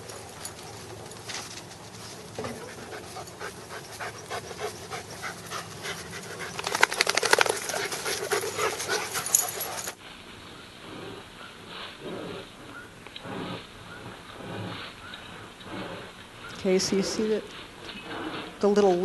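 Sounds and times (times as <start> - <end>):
dogs panting: 0.0 - 10.0, 10.9 - 18.7.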